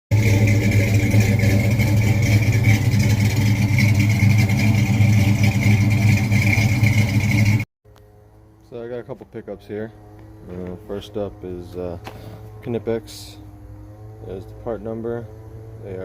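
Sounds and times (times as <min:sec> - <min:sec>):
loud engine running: 0:00.1 - 0:07.7, 0:10.0 - 0:16.0.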